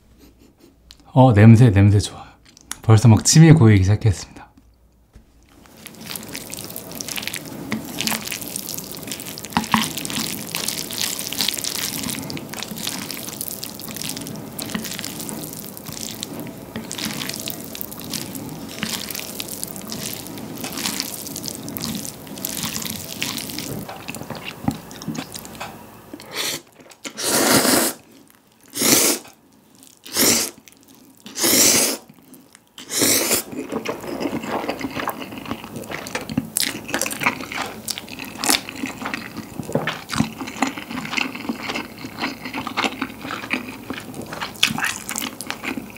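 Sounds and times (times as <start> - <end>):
wet squelching of noodles: 5.4 - 45.9
slurping noodles: 5.6 - 45.9.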